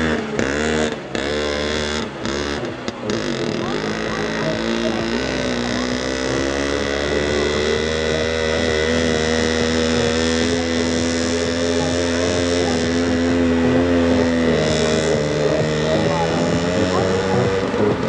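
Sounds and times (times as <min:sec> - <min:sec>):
small tractor engine revving high: 0:00.0 - 0:18.0.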